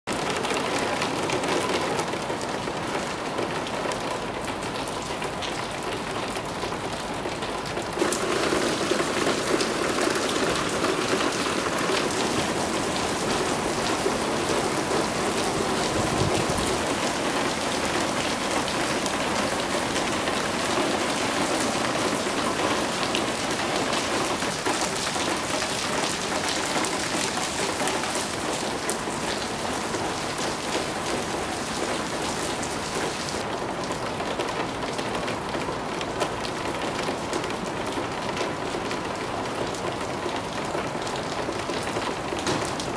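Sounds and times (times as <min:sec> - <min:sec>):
rain on parking lot and cars: 0:00.1 - 0:42.9.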